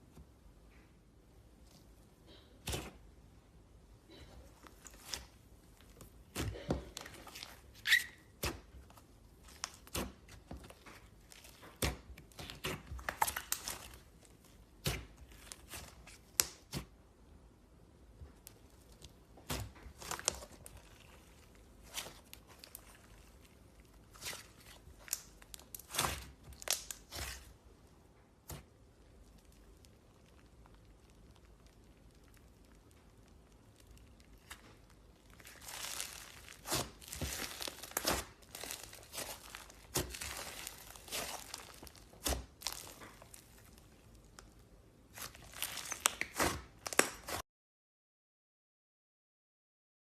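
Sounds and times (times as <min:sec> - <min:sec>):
slime popping and crackling: 0:04.7 - 0:17.0, 0:18.4 - 0:27.6, 0:28.4 - 0:47.4.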